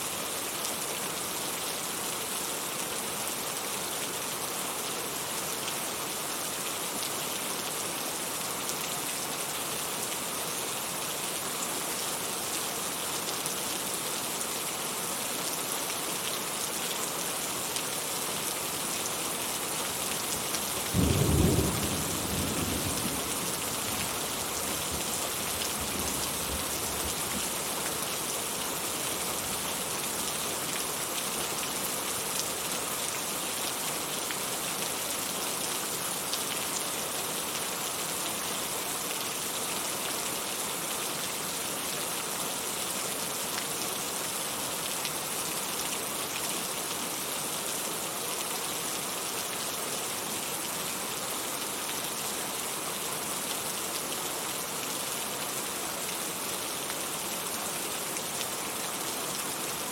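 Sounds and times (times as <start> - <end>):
heavy rain falling: 0.2 - 59.9.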